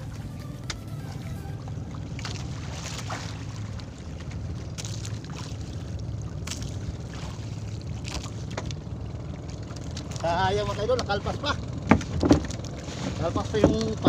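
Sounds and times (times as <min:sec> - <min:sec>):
small boat engine running: 0:00.0 - 0:14.0
water splashing: 0:00.0 - 0:14.0.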